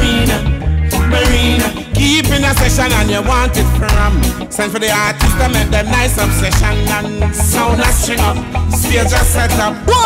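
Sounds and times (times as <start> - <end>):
reggae music with heavy bass: 0.0 - 10.0.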